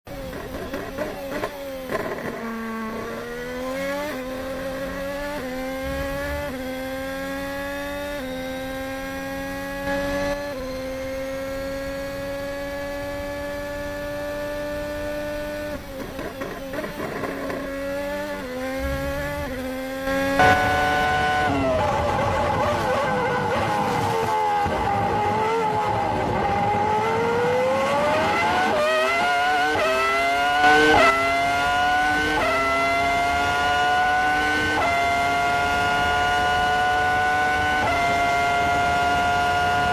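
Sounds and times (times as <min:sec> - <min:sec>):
race car engine high revs: 0:00.2 - 0:39.9.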